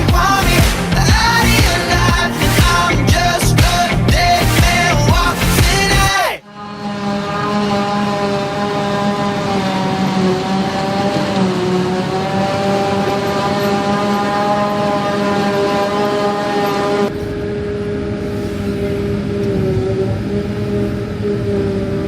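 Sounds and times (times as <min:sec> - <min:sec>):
heavy machinery engine drone: 0:00.0 - 0:22.0
machinery whine: 0:00.0 - 0:22.0.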